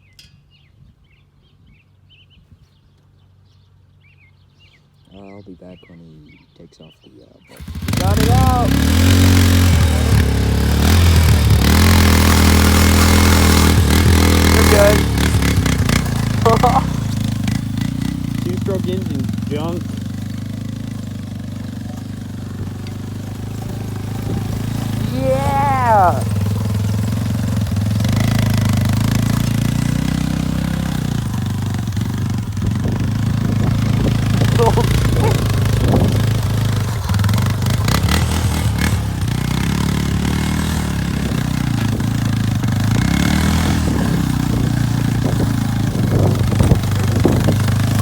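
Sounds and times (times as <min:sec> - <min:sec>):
engine running: 0:07.5 - 0:48.0.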